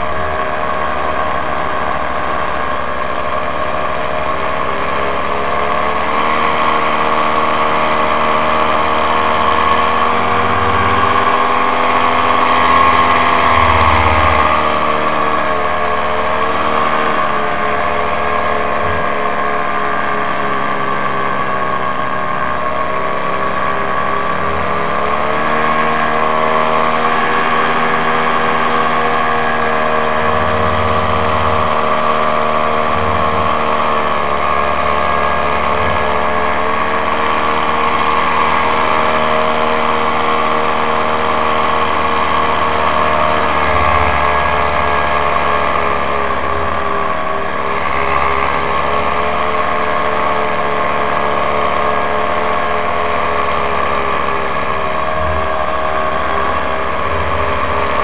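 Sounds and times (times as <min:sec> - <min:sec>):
paramotor engine running: 0:00.0 - 0:58.0.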